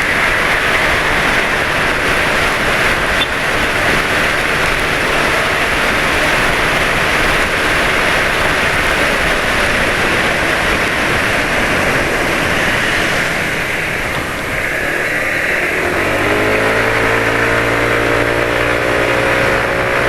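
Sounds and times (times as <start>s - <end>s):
faint motorcycle engine hum: 0.0s - 20.0s
wind and road noise: 0.0s - 20.0s.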